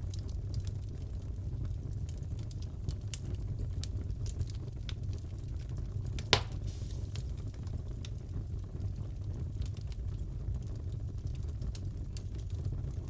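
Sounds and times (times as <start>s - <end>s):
fire crackling and popping: 0.0s - 13.0s
burning logs rumbling: 0.1s - 13.0s.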